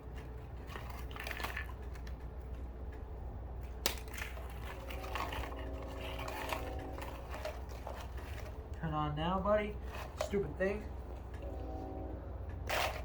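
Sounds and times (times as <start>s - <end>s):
constant low hum: 0.0s - 13.0s
steady humming tone: 0.0s - 13.0s.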